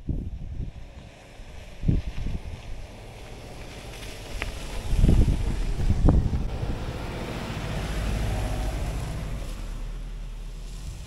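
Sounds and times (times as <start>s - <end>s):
wind buffeting microphone: 0.0s - 9.7s
car driving on gravel: 0.0s - 11.0s.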